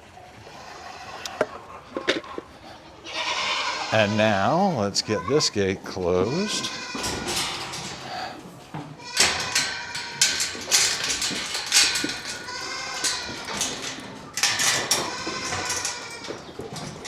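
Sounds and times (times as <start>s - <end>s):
goats bleating: 2.6s - 17.0s.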